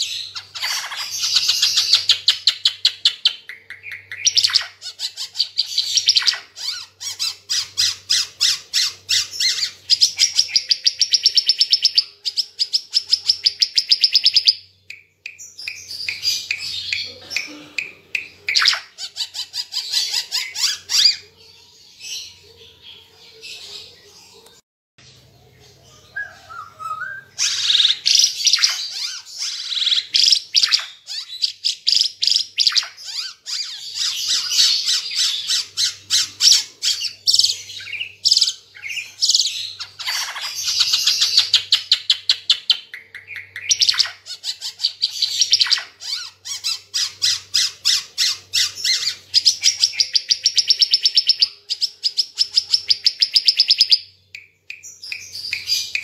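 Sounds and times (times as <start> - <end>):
songbird chirps and trills: 0.0 - 56.0.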